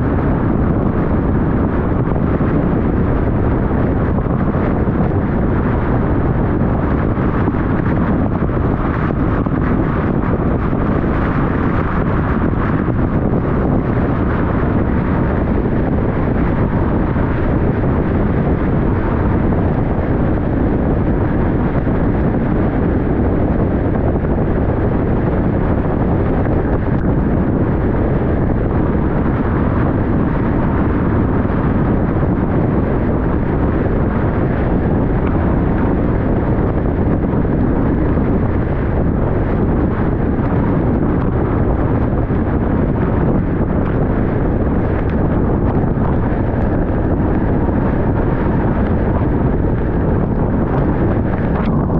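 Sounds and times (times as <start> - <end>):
car road and wind noise: 0.0 - 51.9.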